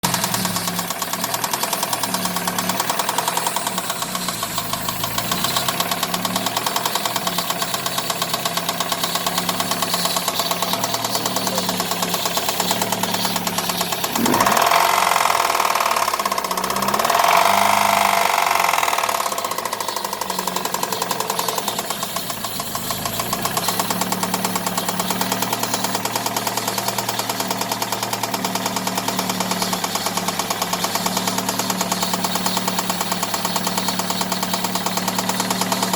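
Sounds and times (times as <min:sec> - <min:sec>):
engine running with metallic knock: 0:00.0 - 0:35.9.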